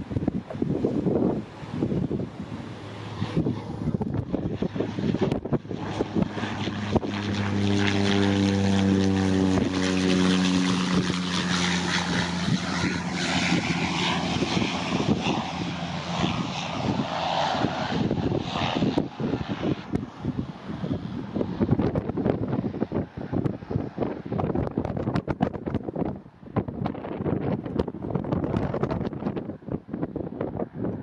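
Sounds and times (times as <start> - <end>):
propeller aircraft drone: 0.0 - 31.0.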